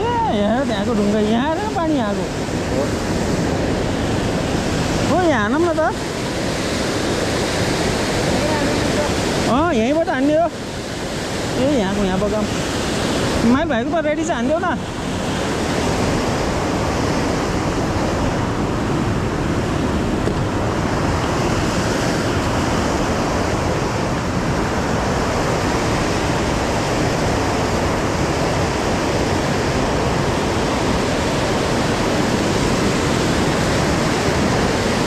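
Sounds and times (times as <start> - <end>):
river rushing through rapids: 0.0 - 35.0.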